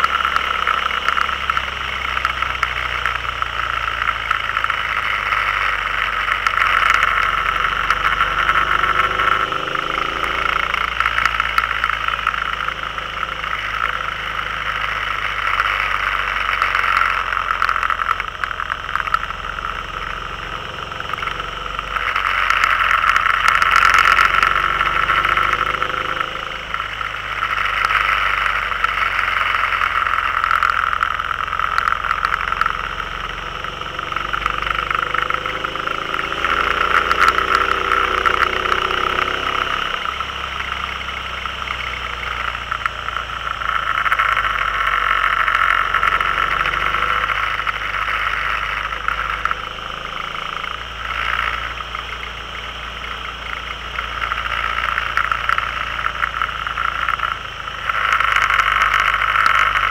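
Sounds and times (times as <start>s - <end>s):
road noise: 0.0s - 59.9s
vehicle engine revving: 0.0s - 59.9s.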